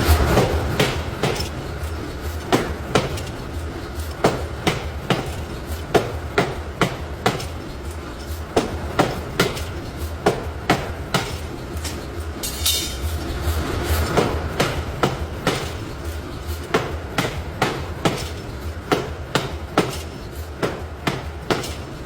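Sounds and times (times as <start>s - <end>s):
low machine hum: 0.0s - 22.0s
hammer striking metal: 0.4s - 3.4s, 4.2s - 8.0s, 8.6s - 13.2s, 14.2s - 15.9s, 16.7s - 22.0s.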